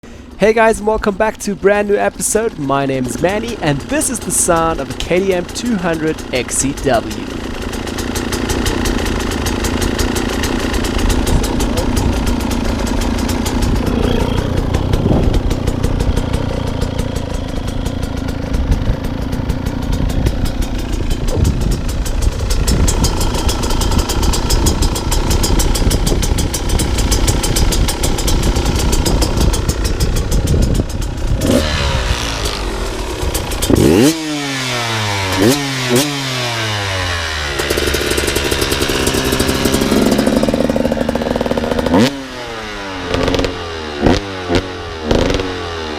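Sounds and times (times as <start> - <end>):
dirt bike engine idling and revving: 0.0 - 45.9.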